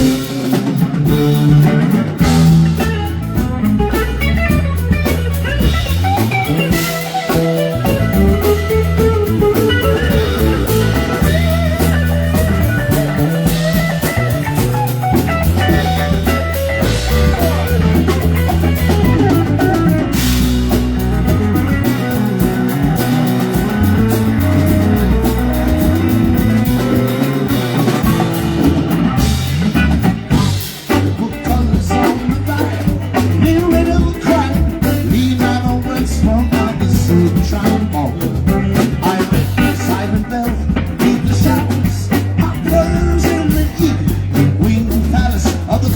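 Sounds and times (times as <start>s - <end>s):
bass: 0.0s - 45.9s
drum kit: 0.0s - 45.9s
electric guitar: 0.0s - 45.9s.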